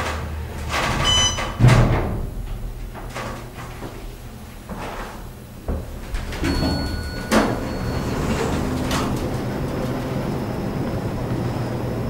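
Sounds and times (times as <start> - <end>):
elevator door clacks: 0.0 - 12.0
steady low hum: 0.0 - 12.0.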